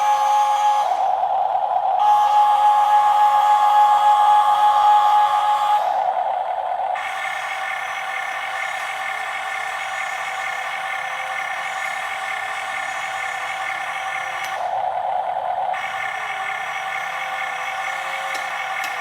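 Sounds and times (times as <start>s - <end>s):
toy excavator motors whining: 3.6s - 19.0s.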